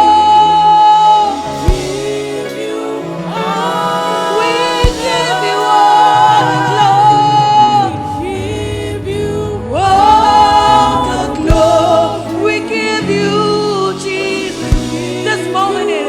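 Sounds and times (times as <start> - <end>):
low instrumental accompaniment: 0.0 - 16.0
voices singing gospel: 0.0 - 16.0.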